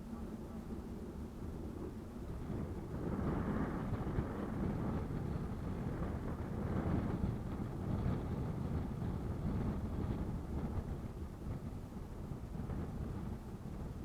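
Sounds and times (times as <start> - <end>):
gale wind buffeting microphone: 0.0 - 14.0.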